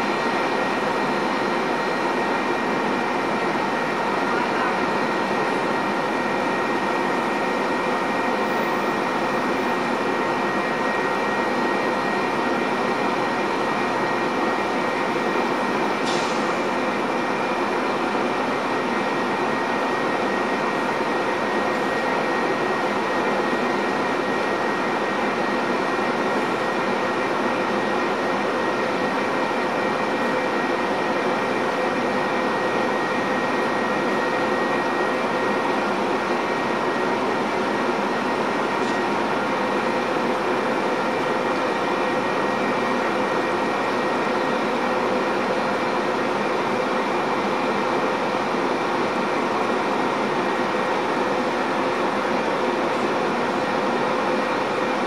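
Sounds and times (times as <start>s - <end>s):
train mechanical hum: 0.0s - 55.0s.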